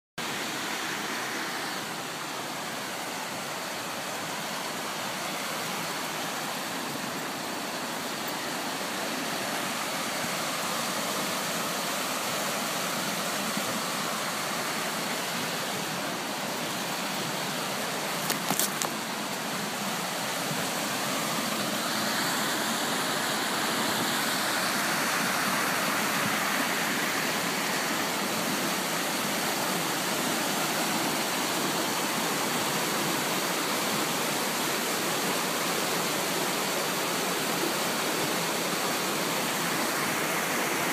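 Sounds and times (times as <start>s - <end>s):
rushing stream water: 0.2s - 40.9s.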